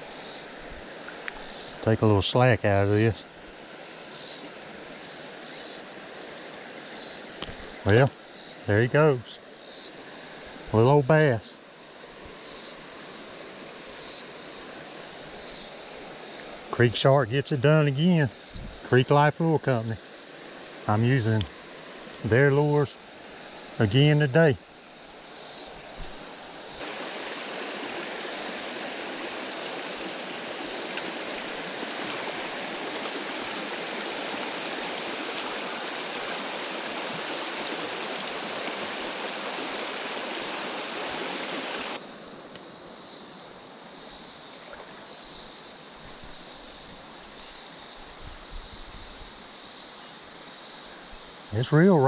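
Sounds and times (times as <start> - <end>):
creek water rushing over rocks: 0.0 - 42.5
high insect chirp: 0.0 - 52.0.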